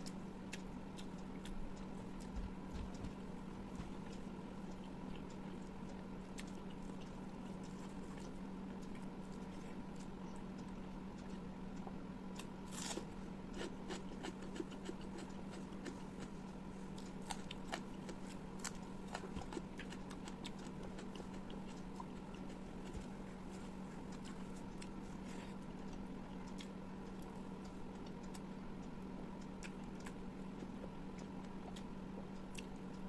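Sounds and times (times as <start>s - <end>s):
close chewing with mouth clicks: 0.0s - 33.0s
steady low hum: 0.0s - 33.0s.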